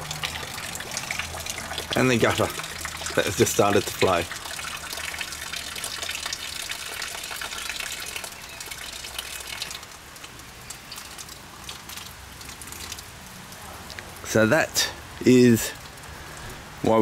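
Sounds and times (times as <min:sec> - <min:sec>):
rain falling: 0:00.0 - 0:17.0
water gushing from a gutter: 0:00.0 - 0:17.0.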